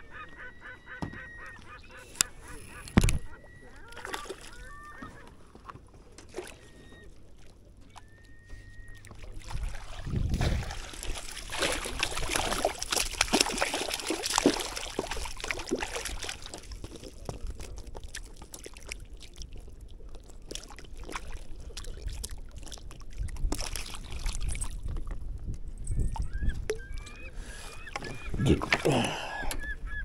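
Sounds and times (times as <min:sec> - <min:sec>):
water splashing beside boat: 0:00.0 - 0:29.9.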